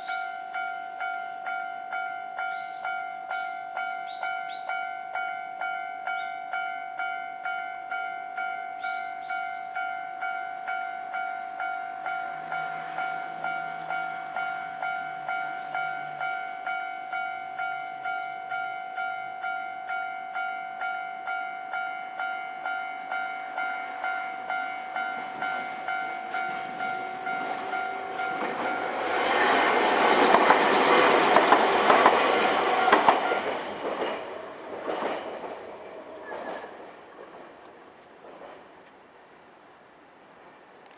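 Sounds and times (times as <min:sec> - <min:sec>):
level-crossing warning bell: 0:00.0 - 0:35.6
train passing with wheel clatter: 0:00.0 - 0:40.9.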